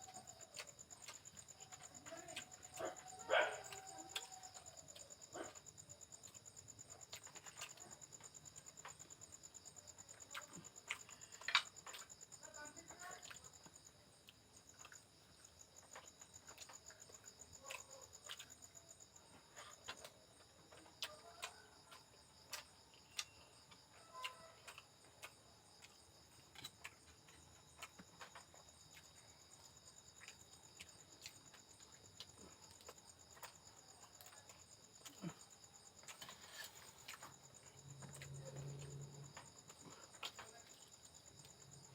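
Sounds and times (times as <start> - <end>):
chewing smacks and clicks: 0.0 - 12.2, 13.0 - 41.7.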